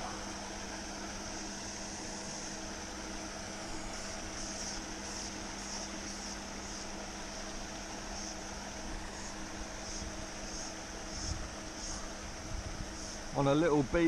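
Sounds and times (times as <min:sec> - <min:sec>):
fountain pump humming: 0:00.0 - 0:14.0
spray splashing on water: 0:00.0 - 0:14.0.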